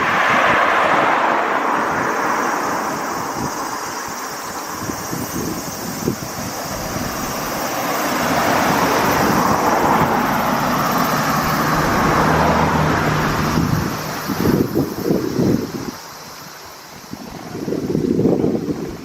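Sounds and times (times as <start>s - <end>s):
motor vehicle passing: 0.0s - 16.0s
wind buffeting microphone: 0.0s - 19.0s.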